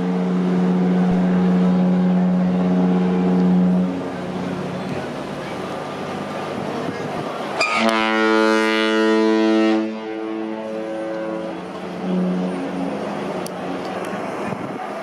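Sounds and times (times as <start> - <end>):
ship horn blast: 0.0 - 14.8.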